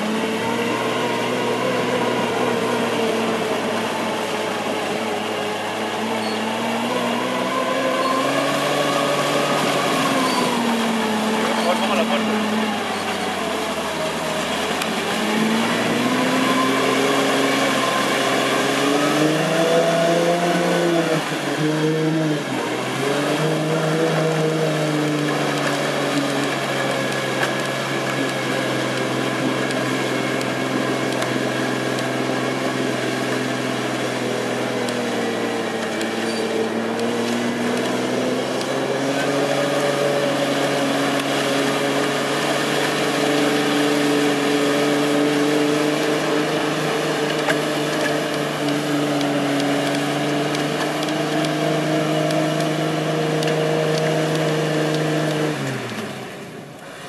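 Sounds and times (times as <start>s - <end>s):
engine revving high: 0.0s - 57.0s
wheels spinning in mud: 0.0s - 57.0s.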